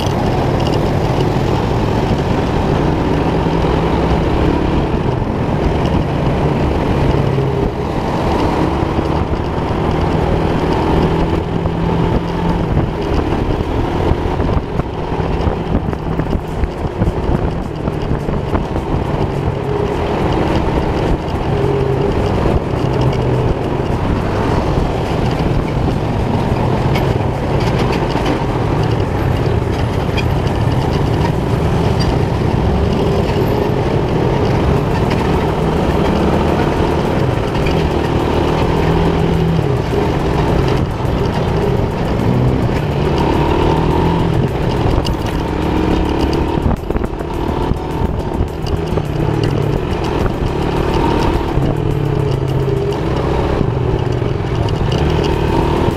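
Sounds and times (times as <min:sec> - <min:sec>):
motorcycle engine: 0:00.0 - 0:55.9
surrounding traffic noise: 0:00.0 - 0:55.9.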